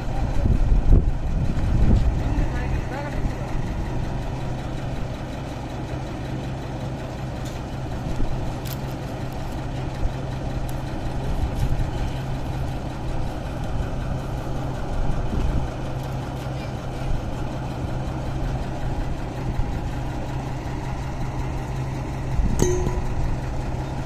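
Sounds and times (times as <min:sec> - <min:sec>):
drilling rig engine running: 0:00.0 - 0:24.0.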